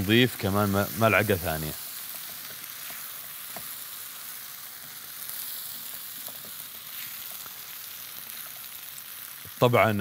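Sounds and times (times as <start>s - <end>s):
rice sizzling in a pan: 0.0s - 10.0s.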